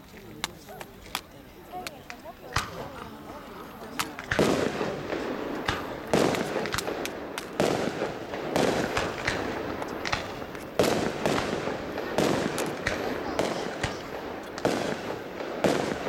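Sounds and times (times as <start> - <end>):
fireworks crackling: 0.0 - 16.0
fireworks bursting: 0.4 - 16.0.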